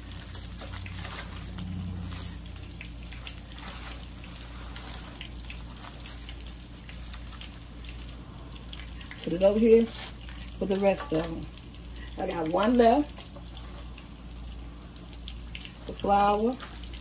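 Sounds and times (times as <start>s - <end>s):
chicken frying in oil: 0.0s - 17.0s
low steady hum: 0.0s - 17.0s.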